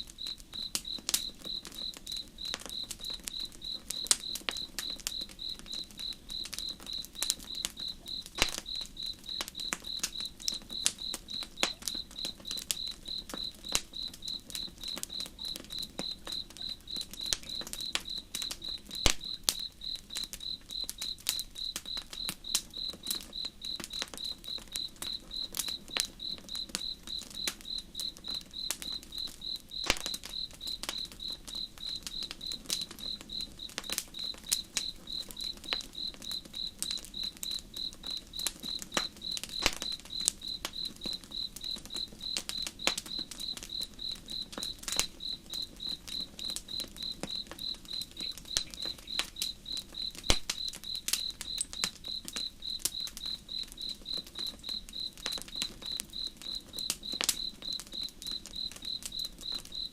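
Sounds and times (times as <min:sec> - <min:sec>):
campfire crackling: 0:00.0 - 0:59.9
cricket chirping: 0:00.0 - 0:59.9.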